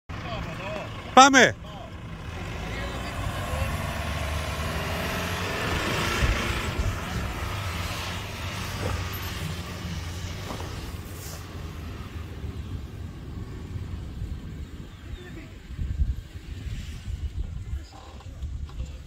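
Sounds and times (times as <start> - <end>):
car engine under load: 0.1 - 16.9.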